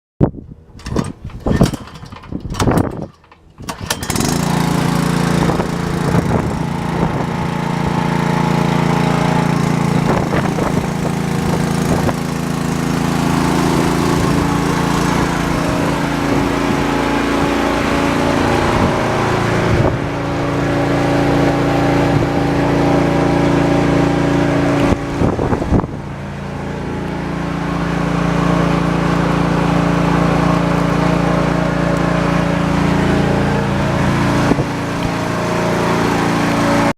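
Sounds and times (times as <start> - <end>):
vehicle engine starting and running: 0.3 - 36.9.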